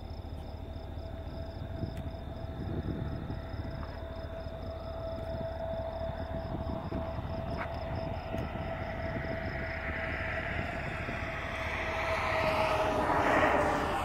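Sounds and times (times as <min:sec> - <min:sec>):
steady mid-pitched hum: 0:00.0 - 0:14.0
vehicle noise: 0:00.0 - 0:14.0.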